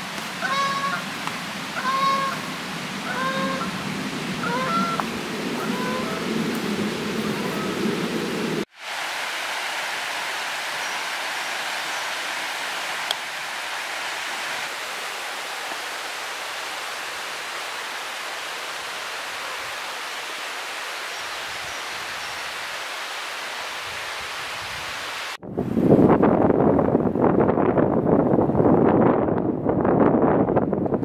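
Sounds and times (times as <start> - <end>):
small stream rushing: 0.0 - 25.4.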